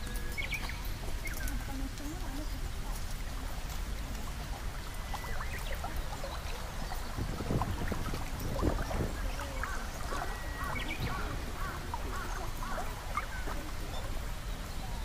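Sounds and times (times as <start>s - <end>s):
faint small birds chirping: 0.0s - 15.0s.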